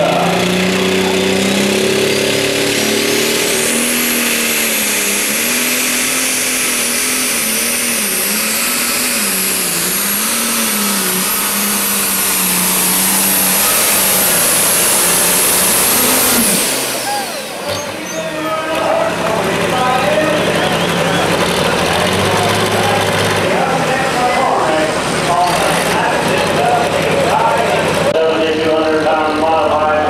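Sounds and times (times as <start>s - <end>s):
diesel tractor engine under load: 0.0s - 30.0s
high turbo whine: 0.0s - 30.0s.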